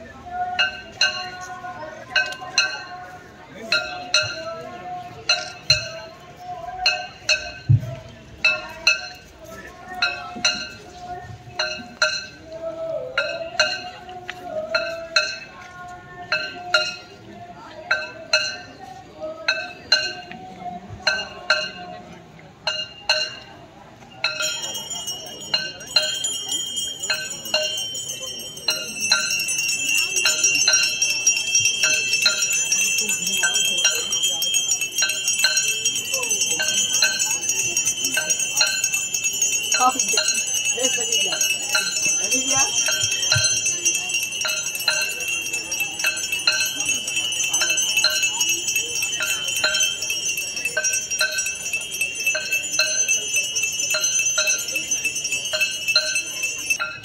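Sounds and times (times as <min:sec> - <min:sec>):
metal bells ringing: 0:00.3 - 0:07.8, 0:08.4 - 0:20.4, 0:21.0 - 0:22.0, 0:22.6 - 0:57.0.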